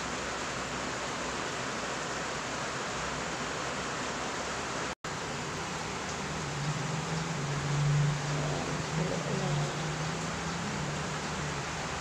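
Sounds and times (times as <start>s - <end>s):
electric fan rushing: 0.0s - 12.0s.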